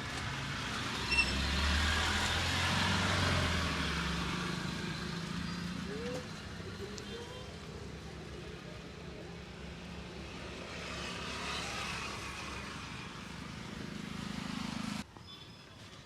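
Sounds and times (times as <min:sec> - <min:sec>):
passing vehicle: 0:00.0 - 0:15.1.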